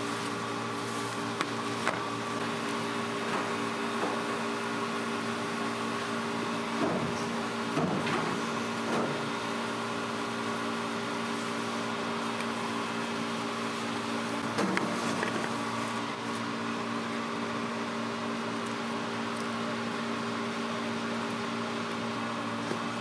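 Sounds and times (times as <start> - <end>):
ventilation equipment humming: 0.0 - 23.0.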